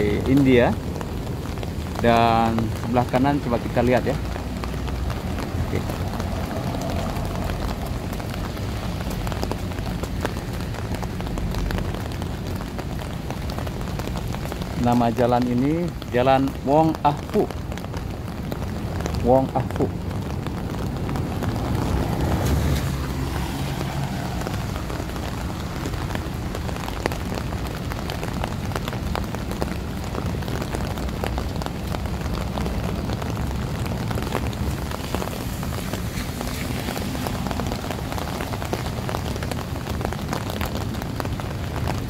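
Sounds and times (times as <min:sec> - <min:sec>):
rain on wet pavement: 0:00.0 - 0:42.0
raindrops ticking: 0:00.0 - 0:42.0.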